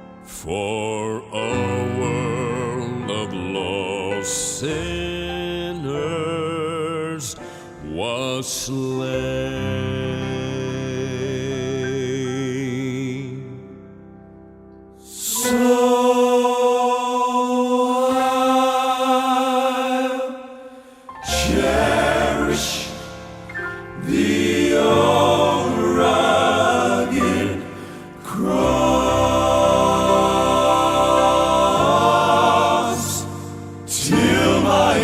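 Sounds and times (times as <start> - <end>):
male quartet singing in harmony: 0.3 - 13.6, 15.1 - 35.0.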